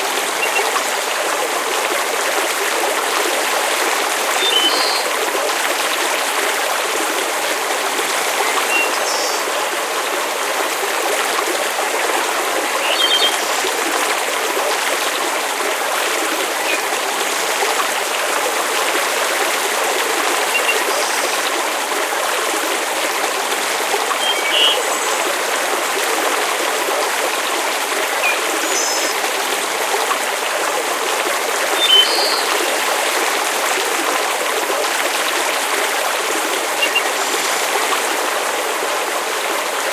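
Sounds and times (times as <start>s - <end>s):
rushing hiss of water: 0.0s - 39.9s.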